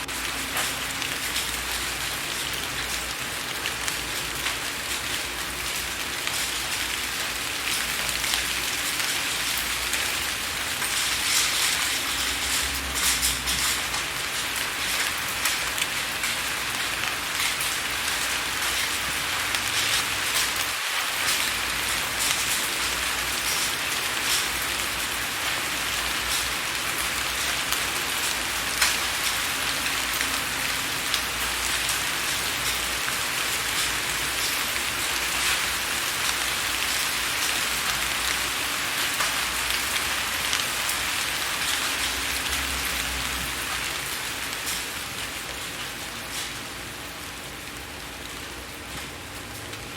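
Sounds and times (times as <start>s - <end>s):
rain drops tapping on window: 0.0s - 49.9s
rain hiss: 0.0s - 49.9s.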